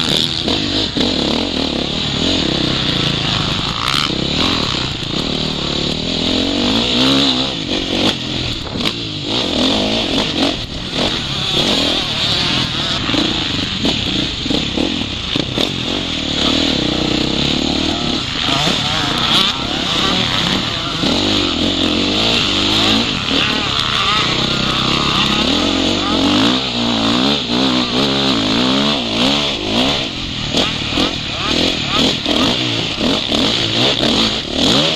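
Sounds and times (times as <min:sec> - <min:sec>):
motocross engine revving: 0:00.0 - 0:34.9.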